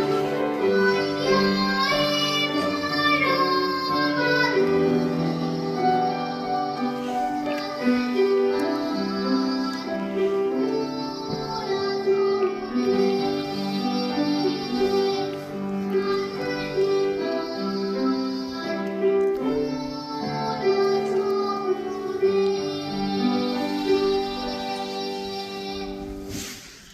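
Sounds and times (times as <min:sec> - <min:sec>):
children's choir singing: 0:00.0 - 0:26.9
instrumental accompaniment: 0:00.0 - 0:26.9.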